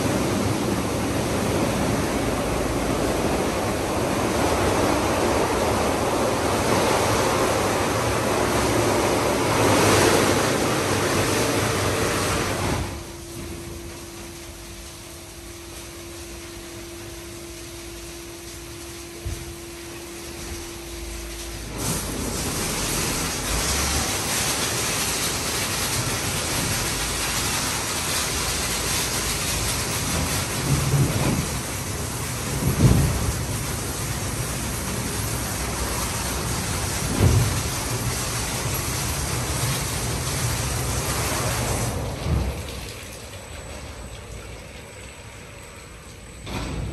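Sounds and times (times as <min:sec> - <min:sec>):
car wash water spray rushing: 0:00.0 - 0:46.9
steady machine hum: 0:00.0 - 0:46.9.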